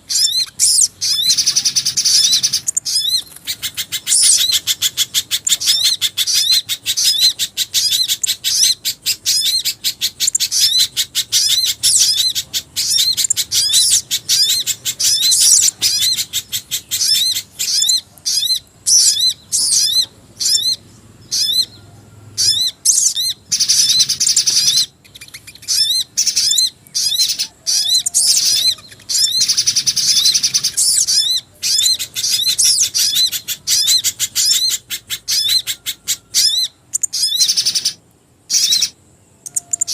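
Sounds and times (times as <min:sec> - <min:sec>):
buzzy bird trilling: 0:00.0 - 0:39.9
rapid high bird chirps: 0:00.0 - 0:39.9.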